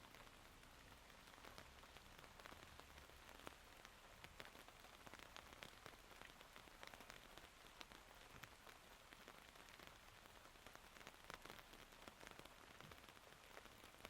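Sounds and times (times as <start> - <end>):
raindrops ticking: 0.0 - 14.0
soft rain hiss: 0.0 - 14.0.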